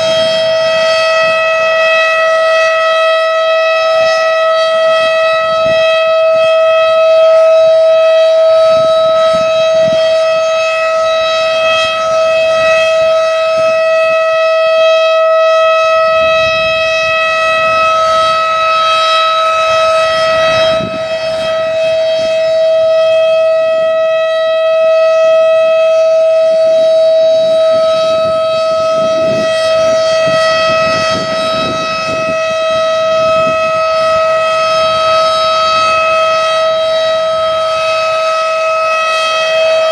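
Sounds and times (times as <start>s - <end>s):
wind rumble on microphone: 0.0s - 24.3s, 26.1s - 39.9s
civil defense siren steady tone: 0.0s - 39.9s.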